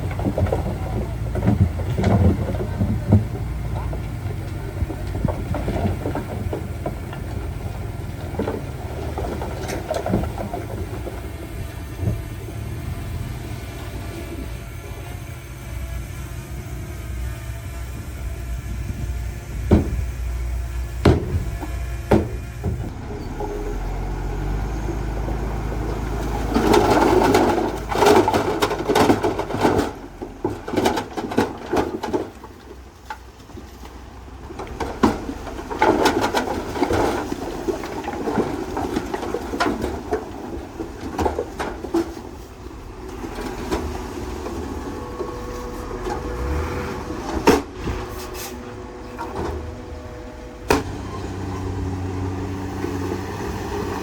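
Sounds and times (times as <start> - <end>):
machinery clanks and knocks: 0.0 - 15.0, 18.9 - 54.0
diesel engine rumbling: 0.0 - 54.0.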